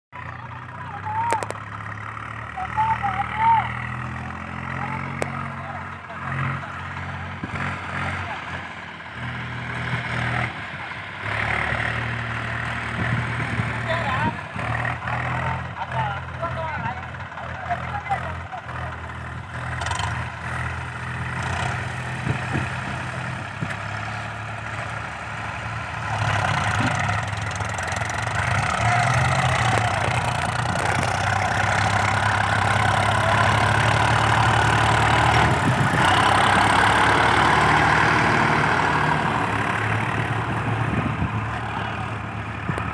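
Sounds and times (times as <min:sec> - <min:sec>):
tractor diesel engine running: 0:00.2 - 0:42.9.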